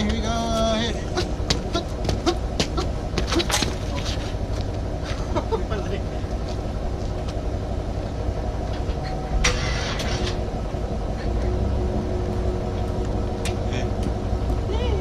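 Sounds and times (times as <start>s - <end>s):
pickup truck driving drone: 0.0s - 15.0s.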